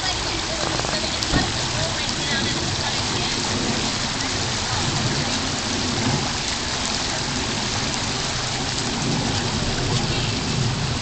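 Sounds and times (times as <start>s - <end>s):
floodwater rushing along street: 0.0s - 11.0s
heavy rain: 0.0s - 11.0s.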